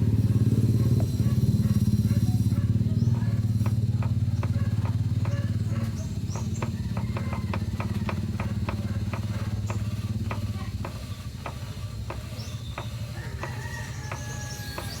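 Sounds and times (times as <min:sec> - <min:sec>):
car engine idling: 0:00.0 - 0:15.0
engine clunking knocks: 0:00.0 - 0:15.0.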